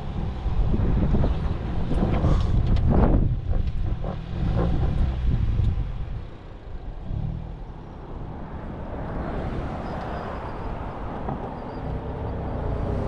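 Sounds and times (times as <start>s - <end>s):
low engine and drivetrain rumble: 0.0s - 13.0s.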